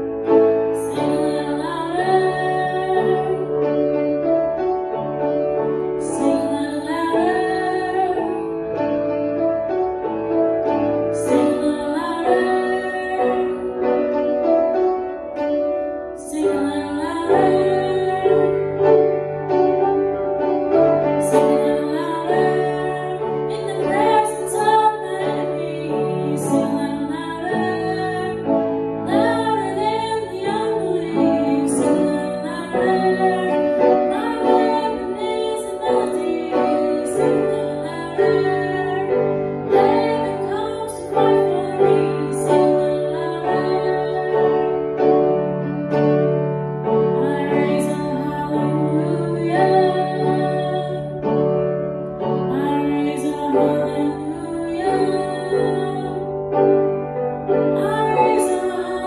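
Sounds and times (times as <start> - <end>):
woman singing: 0.0 - 4.3, 5.8 - 9.2, 10.6 - 14.4, 16.1 - 19.0, 20.7 - 45.3, 47.0 - 51.4, 52.2 - 56.8, 57.5 - 59.0
piano accompaniment: 0.0 - 59.0.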